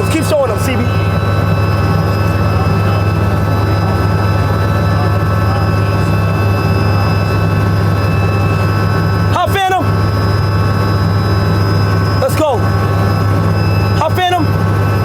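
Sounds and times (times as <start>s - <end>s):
helicopter cabin drone: 0.0s - 15.0s
thin whining tones: 0.0s - 15.0s.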